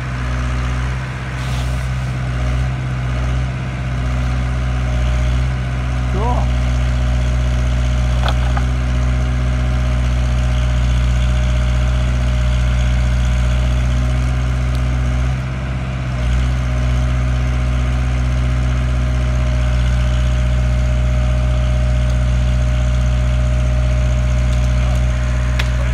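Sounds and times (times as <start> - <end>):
crane truck engine running: 0.0 - 25.9.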